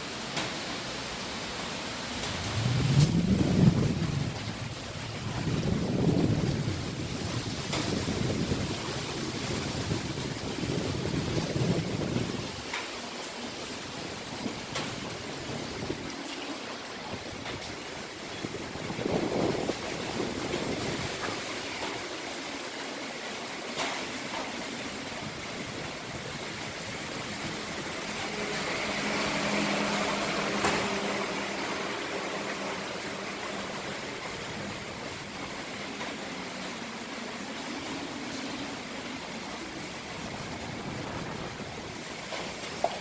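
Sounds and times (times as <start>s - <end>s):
wind blowing in gusts: 2.1s - 12.9s, 13.5s - 22.6s, 24.7s - 43.0s.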